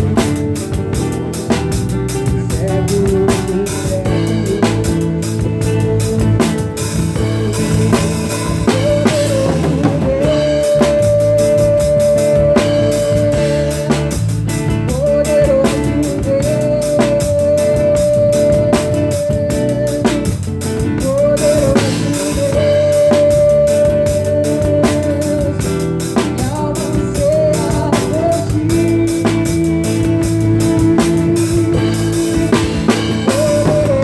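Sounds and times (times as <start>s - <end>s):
drum kit busy beat: 0.0s - 34.0s
live band playing: 0.0s - 34.0s.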